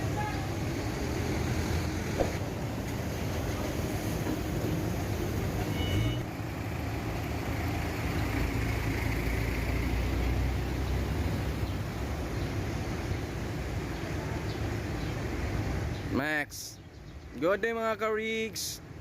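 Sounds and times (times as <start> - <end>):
vehicle engine rumbling: 0.0 - 16.1.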